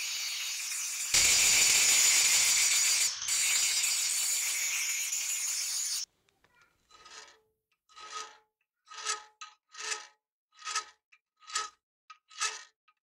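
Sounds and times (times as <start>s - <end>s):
file rasping on steel blade: 0.0s - 6.0s, 6.8s - 12.8s.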